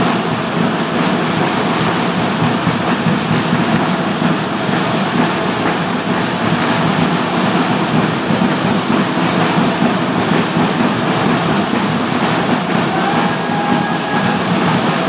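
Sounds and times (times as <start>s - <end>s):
indoor hall background noise: 0.0s - 15.0s.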